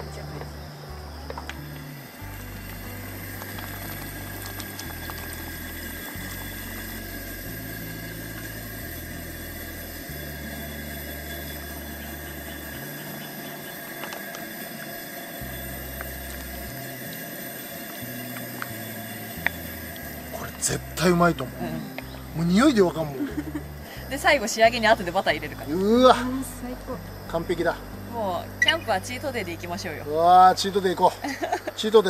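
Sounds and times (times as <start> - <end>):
background music with slow bass line: 0.0 - 32.0
steady hiss: 0.0 - 32.0.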